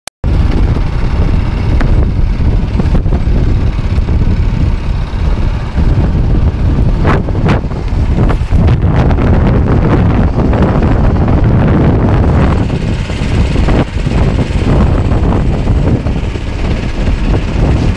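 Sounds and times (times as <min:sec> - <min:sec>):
wind buffeting microphone: 0:00.2 - 0:17.9.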